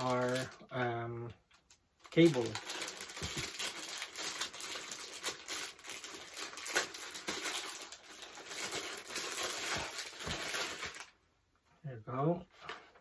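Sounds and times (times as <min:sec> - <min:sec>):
plastic packaging crinkling: 0:00.0 - 0:00.8, 0:01.5 - 0:11.2.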